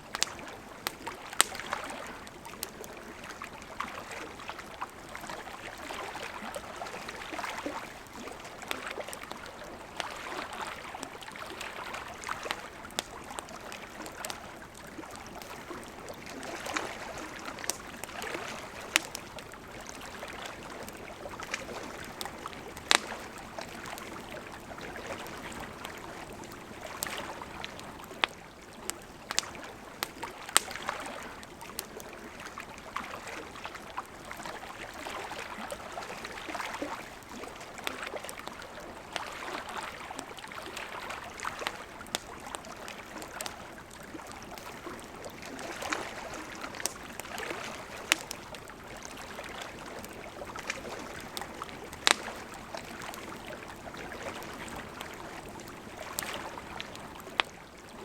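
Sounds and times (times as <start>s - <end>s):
campfire crackling and popping: 0.0s - 58.0s
lake water lapping: 0.0s - 58.0s.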